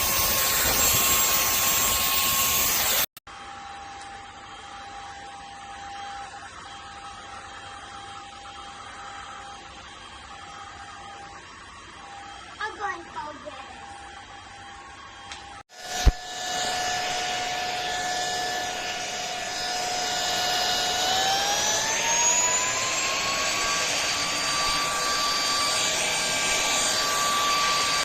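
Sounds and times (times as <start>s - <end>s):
handheld vacuum cleaner whine: 0.0s - 12.9s, 13.5s - 28.0s.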